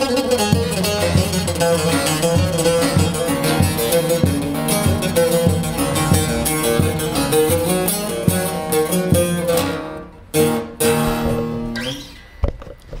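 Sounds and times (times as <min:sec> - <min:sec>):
strummed lute chords: 0:00.0 - 0:12.8
plucked lute notes: 0:00.0 - 0:13.0.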